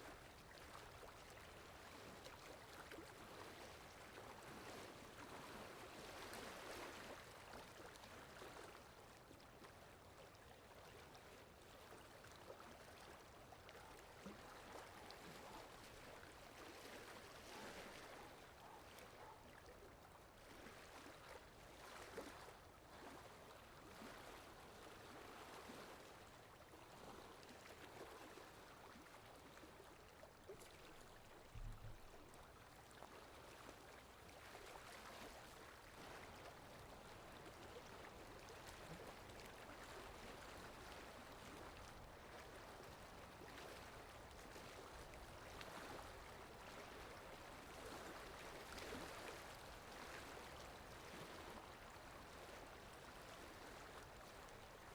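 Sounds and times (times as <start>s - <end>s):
babbling stream: 0.0s - 54.9s.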